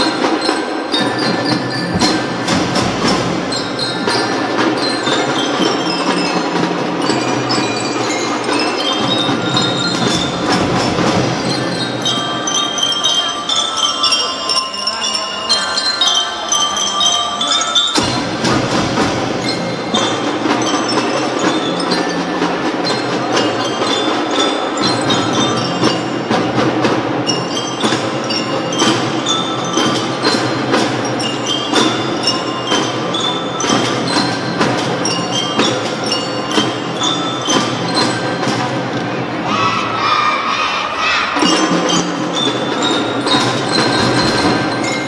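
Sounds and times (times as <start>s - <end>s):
marching drums: 0.0s - 12.6s, 18.0s - 45.0s
mallet bells melody: 0.0s - 45.0s.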